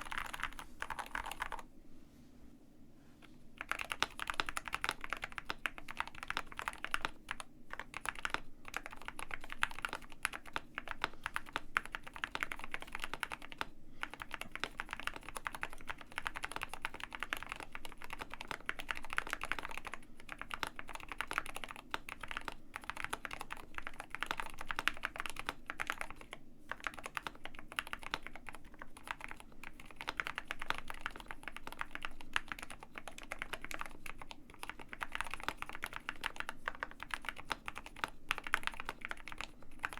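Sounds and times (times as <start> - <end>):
mechanical keyboard typing: 0.0 - 1.6, 3.6 - 39.9.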